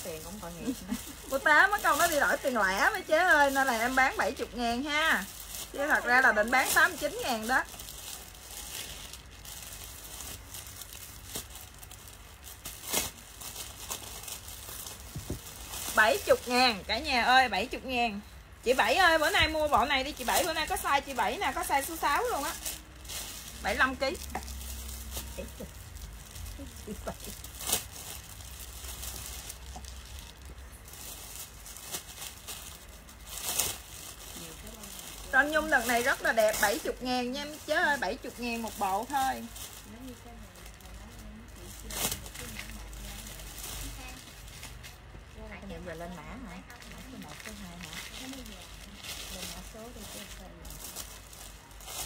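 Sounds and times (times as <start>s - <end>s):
low steady hum: 0.0s - 52.0s
rustling and handling noises: 0.0s - 52.0s.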